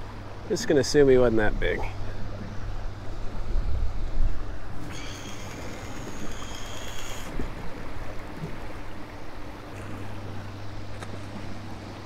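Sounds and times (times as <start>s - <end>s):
high steady buzz: 0.0s - 12.0s
river water flowing: 0.0s - 12.0s.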